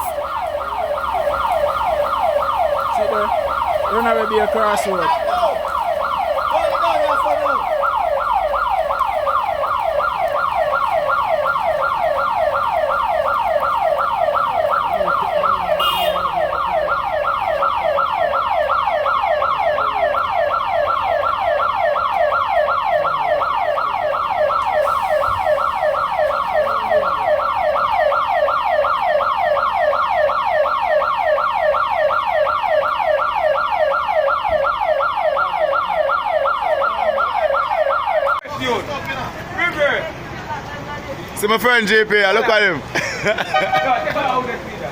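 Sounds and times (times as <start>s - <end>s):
siren yelping: 0.0s - 38.4s.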